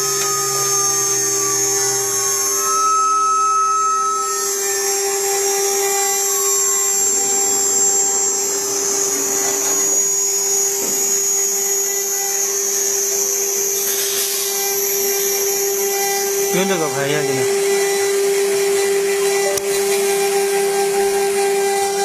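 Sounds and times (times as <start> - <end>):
router spindle high whine: 0.0 - 22.0.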